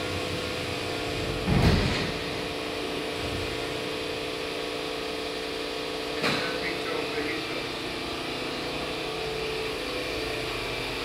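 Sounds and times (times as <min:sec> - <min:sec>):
industrial machinery humming: 0:00.0 - 0:11.0.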